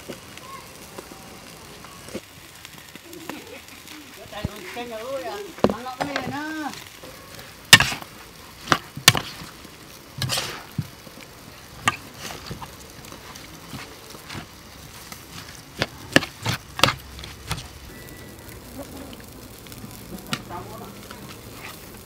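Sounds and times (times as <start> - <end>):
vegetables rustling: 0.0 - 22.0.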